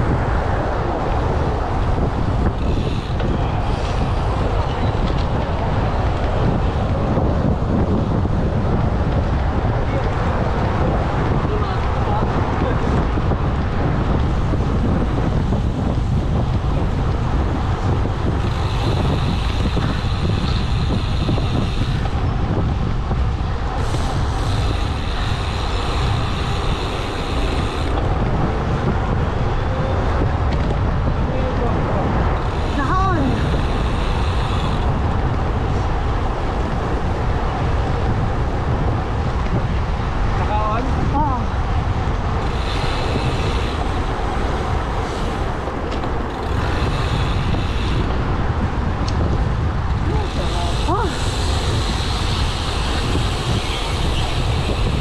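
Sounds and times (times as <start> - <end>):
road noise: 0.0 - 55.0
wind buffeting microphone: 0.0 - 55.0.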